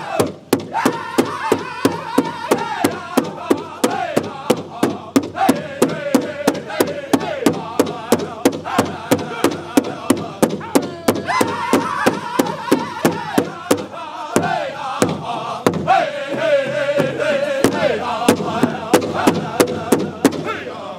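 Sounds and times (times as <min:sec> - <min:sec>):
singers chanting together: 0:00.0 - 0:20.9
large hand drum beating: 0:00.2 - 0:20.5.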